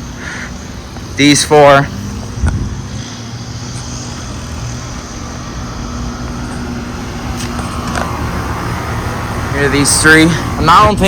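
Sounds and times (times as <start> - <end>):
air conditioner units humming: 0.0 - 11.0
condenser fans rushing: 0.0 - 11.0.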